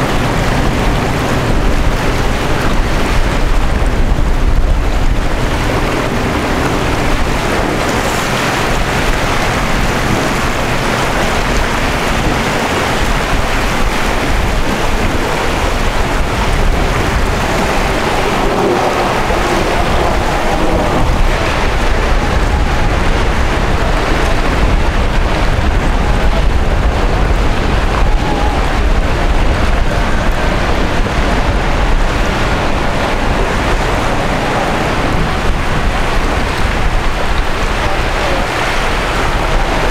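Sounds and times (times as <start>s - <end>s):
choppy water: 0.0s - 39.9s
deep rumble: 0.0s - 39.9s
wind rushing: 0.0s - 39.9s.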